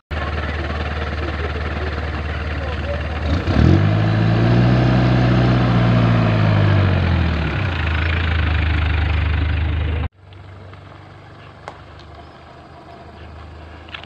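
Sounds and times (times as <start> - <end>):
car engine running: 0.1 - 14.0.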